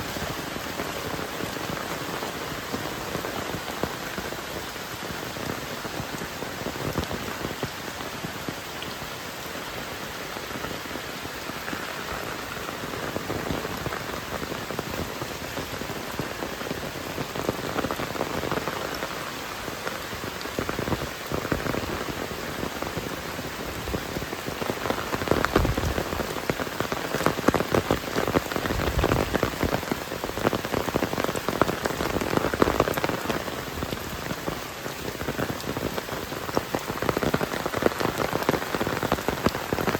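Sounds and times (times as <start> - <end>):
heavy rain falling: 0.0 - 39.9
raindrops ticking: 0.1 - 39.9.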